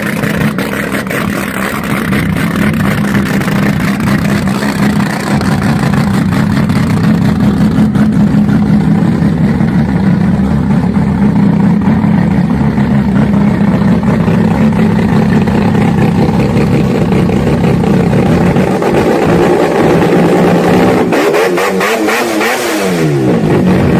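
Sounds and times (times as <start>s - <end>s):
loud engine running: 0.0s - 23.9s.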